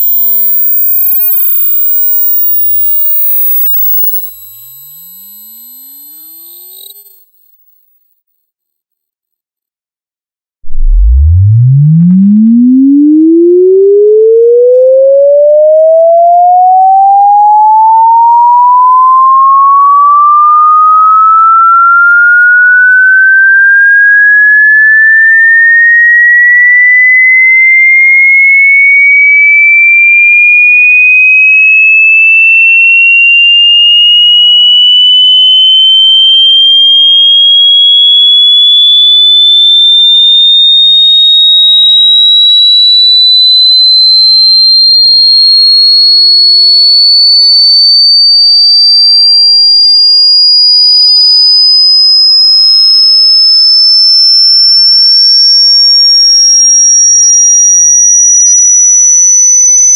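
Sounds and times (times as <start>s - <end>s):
rising sine-wave sweep tone: 0.0s - 7.6s, 10.6s - 59.9s.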